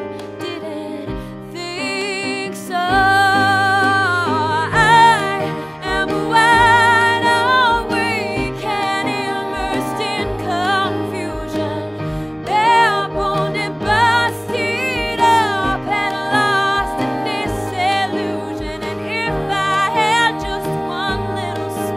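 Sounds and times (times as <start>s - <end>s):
song with singing over a beat: 0.0s - 21.9s.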